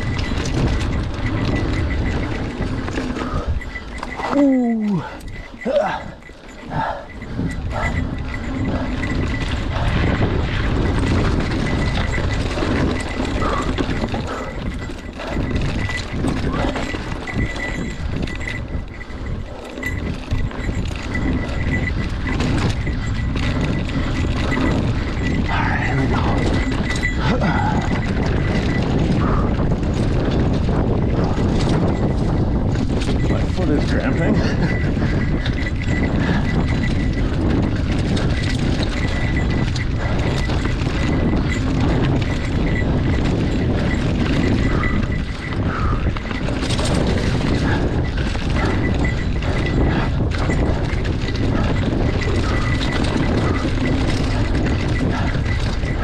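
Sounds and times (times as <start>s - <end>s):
bike rattling over bumps: 0.0s - 56.0s
wind rumble on microphone: 0.0s - 56.0s.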